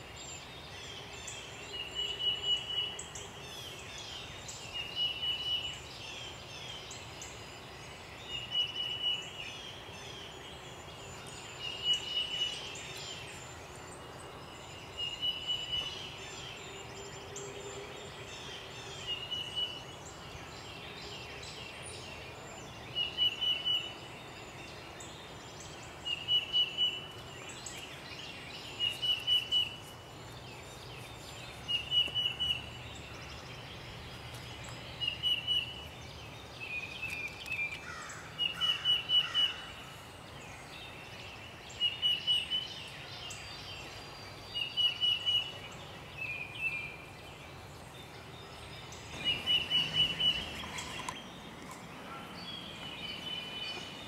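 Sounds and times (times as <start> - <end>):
bird singing burry song: 0.0 - 54.0
faint steady background noise: 0.0 - 54.0.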